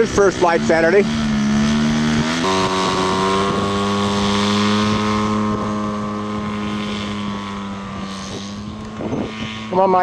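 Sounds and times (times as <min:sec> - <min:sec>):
model airplane engine and propeller: 0:00.0 - 0:10.0.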